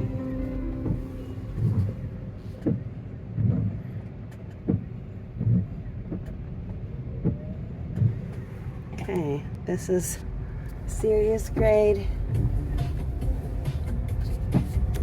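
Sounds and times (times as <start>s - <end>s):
windshield wipers thumping: 0.0s - 9.4s, 10.7s - 15.0s
road noise: 0.0s - 15.0s.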